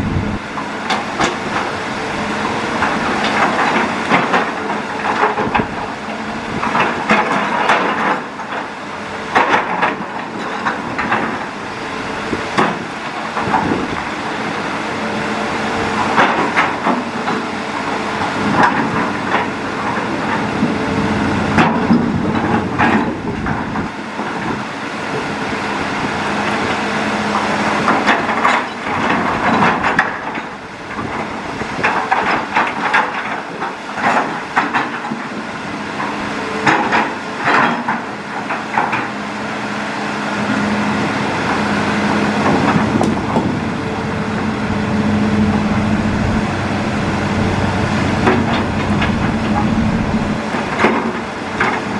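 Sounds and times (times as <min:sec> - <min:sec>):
excavator bucket clanking: 0:00.0 - 0:39.4, 0:40.3 - 0:51.9
excavator engine running: 0:00.0 - 0:51.9.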